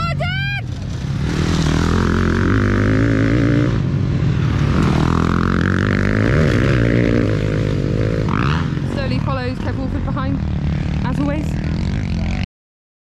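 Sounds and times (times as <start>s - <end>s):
motocross bike engines revving: 0.0s - 12.5s.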